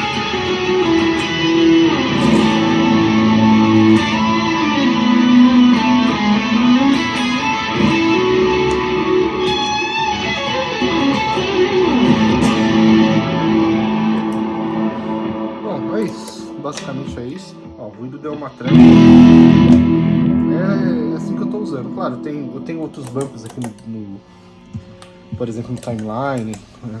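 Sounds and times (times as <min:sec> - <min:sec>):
electric guitar with effects: 0:00.0 - 0:24.9.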